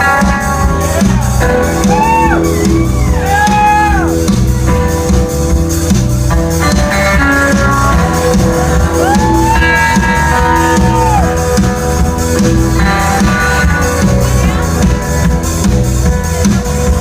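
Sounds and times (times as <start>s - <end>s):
country-rock band playing: 0.0s - 17.0s.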